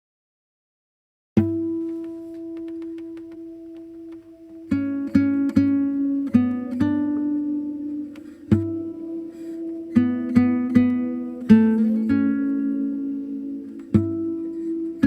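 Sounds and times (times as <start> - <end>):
acoustic guitar chords: 1.4 - 15.0.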